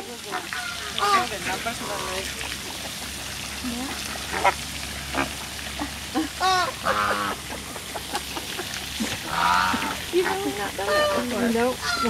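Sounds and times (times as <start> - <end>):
flamingos honking: 0.1 - 3.0, 4.2 - 12.0.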